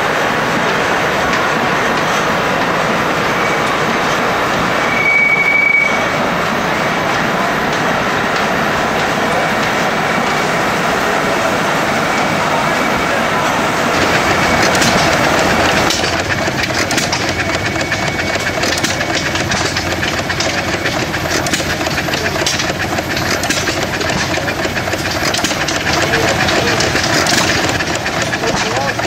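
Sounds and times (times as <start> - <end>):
stationary gas engines clattering: 0.0 - 29.0.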